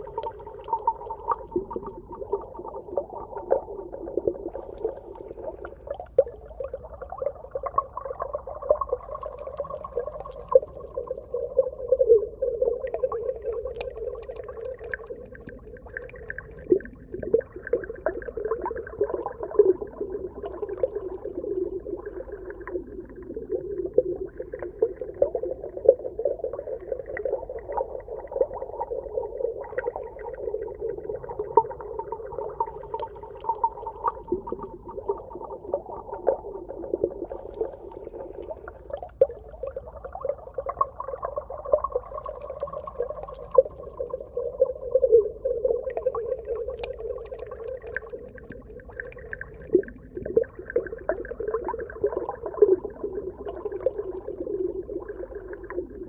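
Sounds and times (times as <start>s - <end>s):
underwater rushing with crackles: 0.0s - 56.0s.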